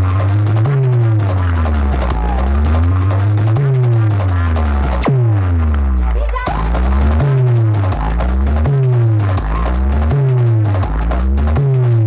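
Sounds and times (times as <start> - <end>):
deep synth tone sliding: 0.0 - 11.5
electronic dance music: 0.0 - 12.0.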